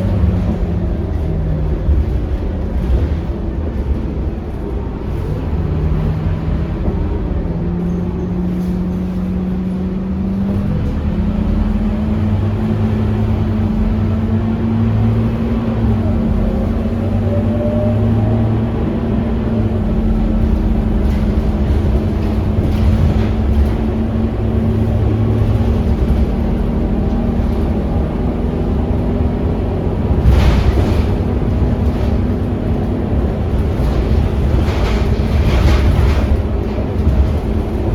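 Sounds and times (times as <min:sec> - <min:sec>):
bus diesel engine drone: 0:00.0 - 0:37.9.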